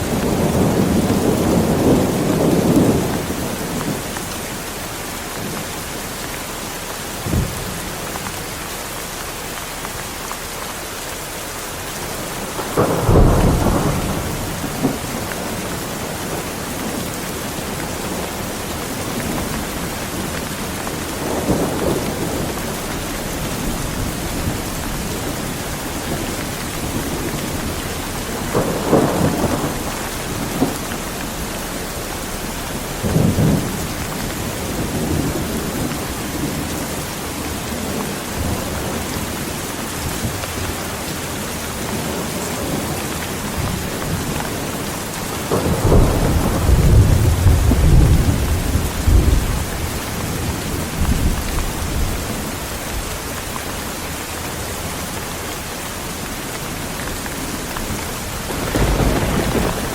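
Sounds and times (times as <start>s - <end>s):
thunder rumbling: 0.0s - 4.5s, 12.0s - 41.0s, 41.9s - 53.7s, 56.6s - 59.9s
heavy rain: 0.0s - 59.9s.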